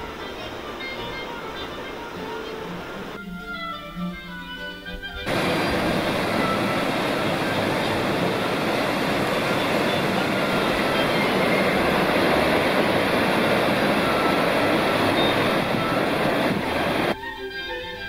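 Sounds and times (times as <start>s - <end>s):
river water rushing through weir: 0.0s - 3.2s, 5.2s - 17.2s.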